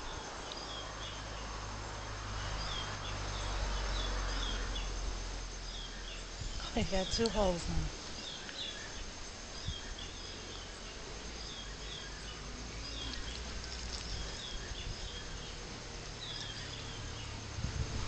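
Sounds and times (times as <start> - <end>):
high insect hiss: 0.0 - 18.0.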